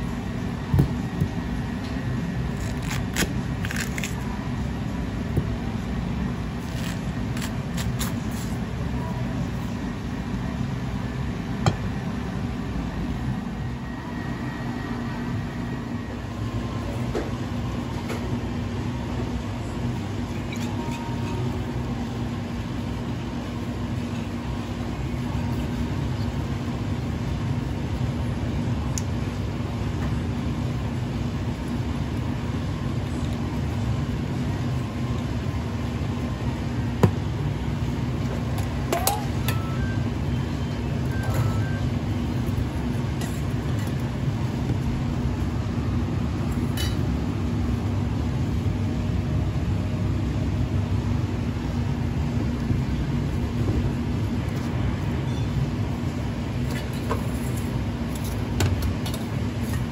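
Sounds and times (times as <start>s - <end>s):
kitchen machinery rumble and hum: 0.0s - 59.9s.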